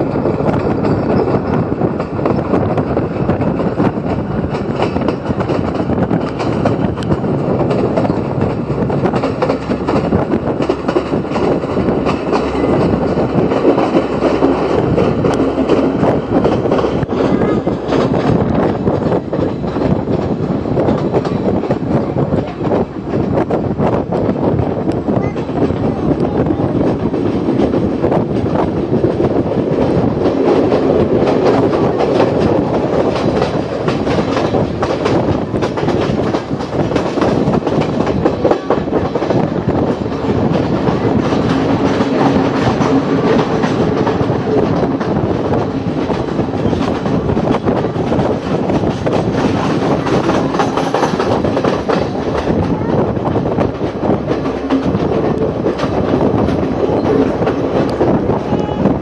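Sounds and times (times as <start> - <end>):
train wheels clattering: 0.0 - 59.0.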